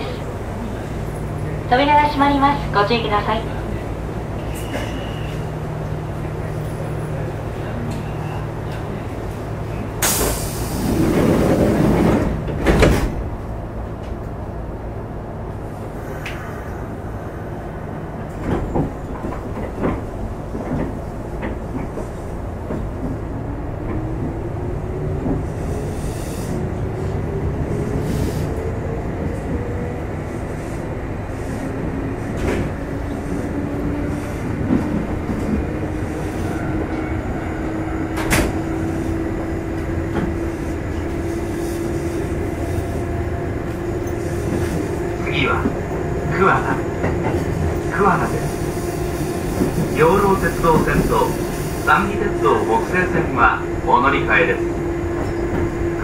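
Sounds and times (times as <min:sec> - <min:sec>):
train running noise: 0:00.0 - 0:56.0.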